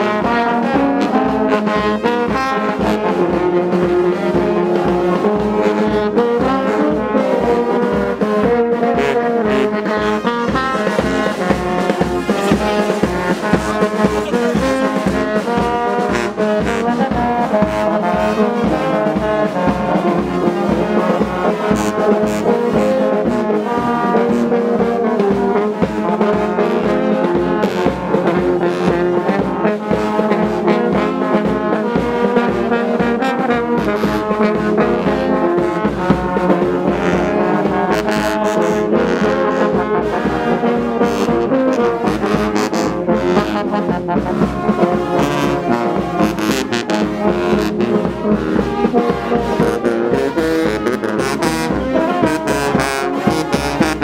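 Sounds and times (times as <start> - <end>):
brass band playing slow tune: 0.0 - 54.0.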